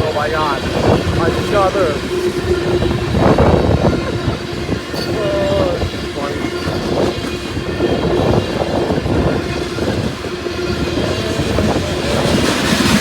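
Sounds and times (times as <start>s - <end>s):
train wheels clacking over rail joints: 0.0s - 13.0s
wheel squeal: 0.8s - 13.0s.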